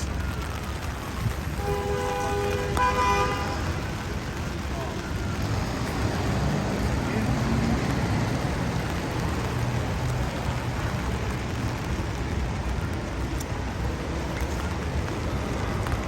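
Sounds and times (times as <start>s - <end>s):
passing traffic: 0.0s - 16.0s
rain on a street: 0.0s - 16.0s.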